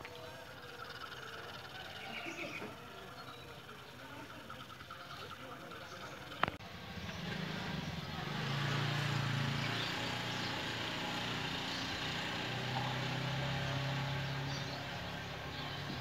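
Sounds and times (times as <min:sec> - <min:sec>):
outdoor street noise: 0:00.0 - 0:16.0.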